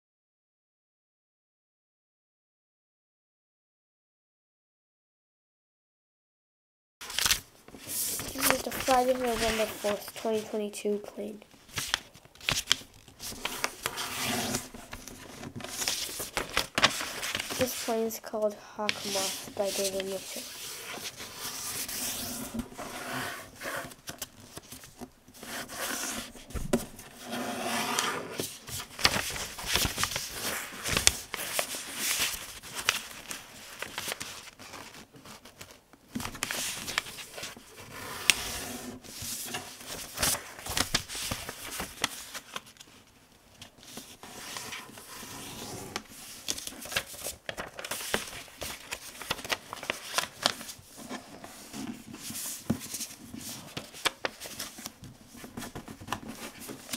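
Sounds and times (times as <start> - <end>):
paper rustling and crinkling: 7.0 - 56.9.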